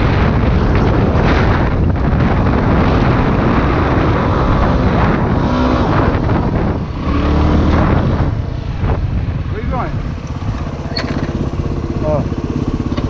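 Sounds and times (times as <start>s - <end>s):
dirt bike engine: 0.0s - 13.0s
wind noise on microphone: 0.0s - 13.0s.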